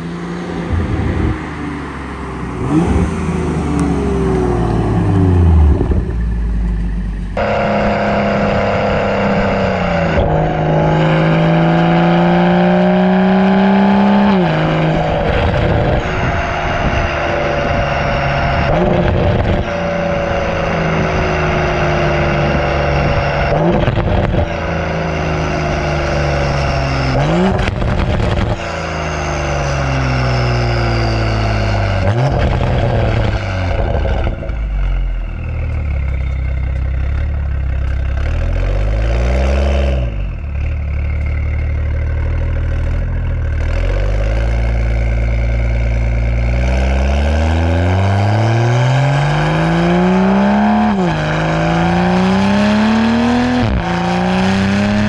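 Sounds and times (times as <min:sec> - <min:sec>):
car exhaust revving: 0:00.0 - 0:55.0.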